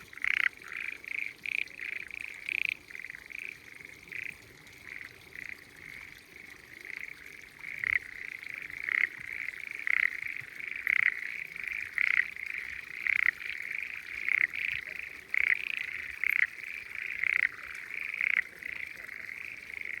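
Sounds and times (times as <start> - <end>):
chorus of frogs calling: 0.0 - 20.0
louder frog croaking: 0.0 - 20.0.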